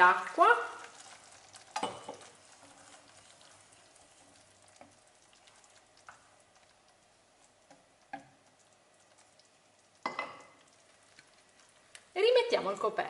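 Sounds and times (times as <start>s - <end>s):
stirring sauce in a frying pan: 0.1s - 12.2s.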